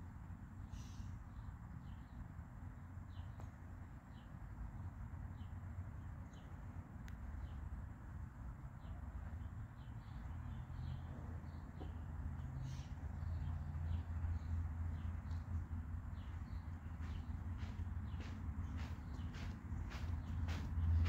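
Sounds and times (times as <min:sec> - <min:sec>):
low outdoor rumble: 0:00.0 - 0:21.0
small birds chirping: 0:00.6 - 0:04.4, 0:05.2 - 0:07.7, 0:08.7 - 0:21.0.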